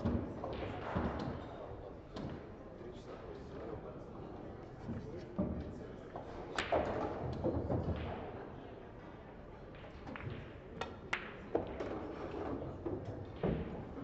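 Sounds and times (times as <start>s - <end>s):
murmur of room noise: 0.0s - 14.0s.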